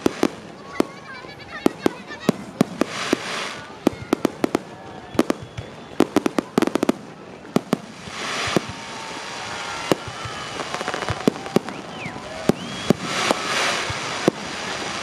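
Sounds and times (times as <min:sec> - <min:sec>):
fireworks bangs: 0:00.0 - 0:15.0
fireworks hissing: 0:00.0 - 0:15.0.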